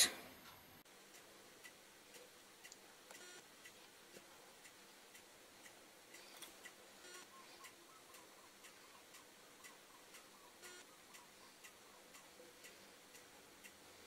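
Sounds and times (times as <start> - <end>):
faint regular ticking: 0.8 - 14.0.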